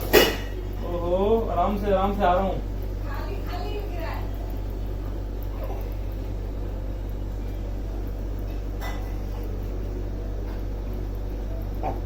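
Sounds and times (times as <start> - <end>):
appliance or fan humming: 0.0 - 12.0.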